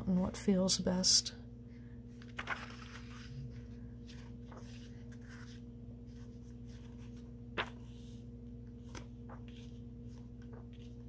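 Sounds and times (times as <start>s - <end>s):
faint steady hum: 0.0s - 11.0s
book pages turning: 2.1s - 11.0s.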